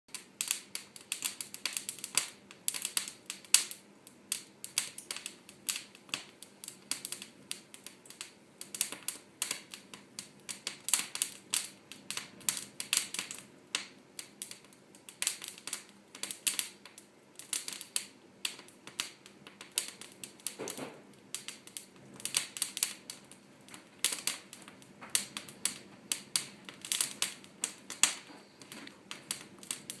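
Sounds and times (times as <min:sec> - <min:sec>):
low hiss of flames: 0:00.1 - 0:30.0
wood fire crackling: 0:00.1 - 0:30.0.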